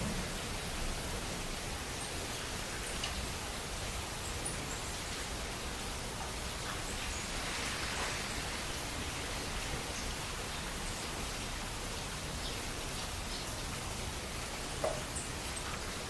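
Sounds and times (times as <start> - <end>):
faint raindrops: 0.0 - 16.0
steady rain falling: 0.0 - 16.0.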